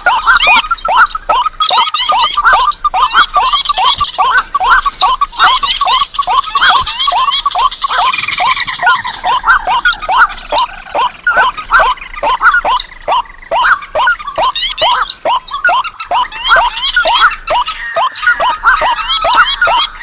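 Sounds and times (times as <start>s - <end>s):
high bird chirps: 0.0s - 20.0s
short falling bird calls: 0.0s - 20.0s.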